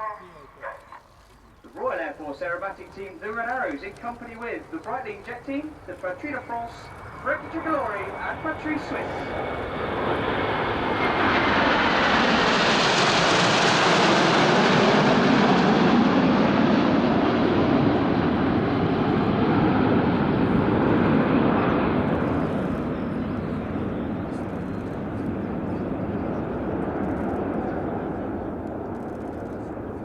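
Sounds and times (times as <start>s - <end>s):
jet aircraft roar: 0.0s - 30.0s.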